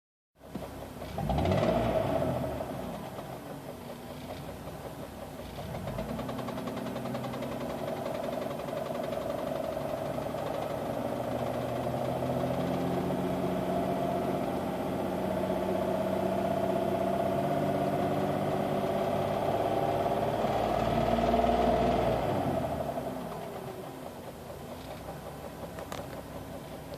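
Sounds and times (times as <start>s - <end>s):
car engine knocking: 0.4s - 26.9s.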